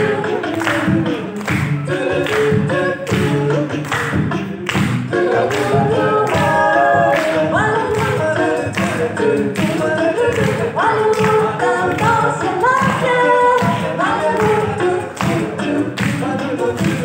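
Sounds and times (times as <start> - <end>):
voices singing over a beat: 0.0 - 17.0.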